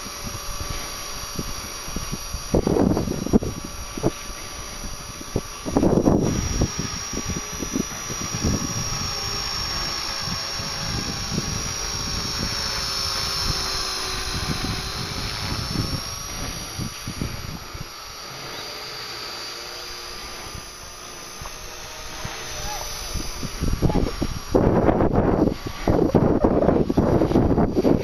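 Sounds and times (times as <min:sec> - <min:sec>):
wind buffeting microphone: 0:00.0 - 0:18.6, 0:19.2 - 0:28.0
rc helicopter motor whine: 0:00.0 - 0:28.0.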